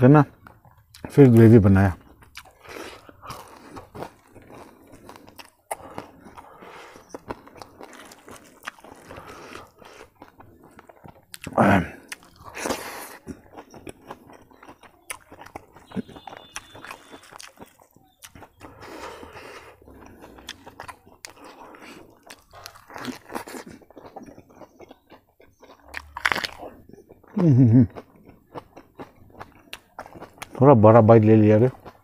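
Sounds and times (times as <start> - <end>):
chewing with wet smacking: 0.3 - 32.0
crunchy bites: 0.4 - 30.6.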